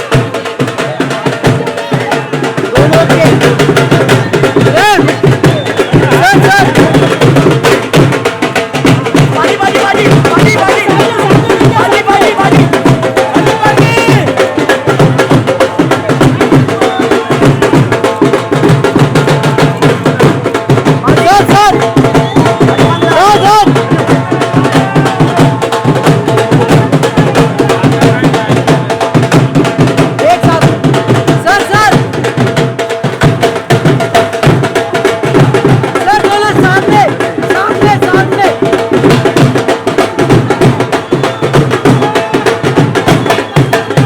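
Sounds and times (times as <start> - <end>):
music with fast percussion beat: 0.0 - 44.0.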